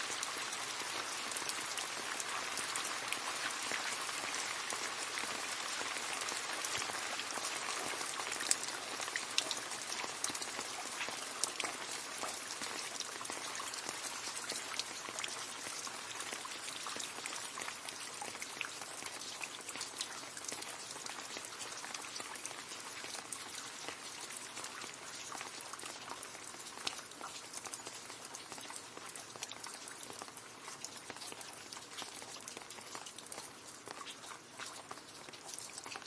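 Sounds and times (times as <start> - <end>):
rain falling into a puddle: 0.0 - 36.0.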